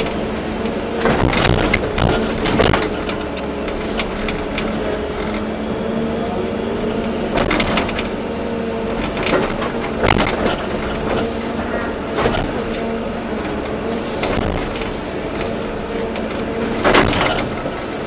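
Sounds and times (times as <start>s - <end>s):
excavator diesel engine running: 0.0s - 18.0s
hydraulic whine: 0.0s - 18.0s.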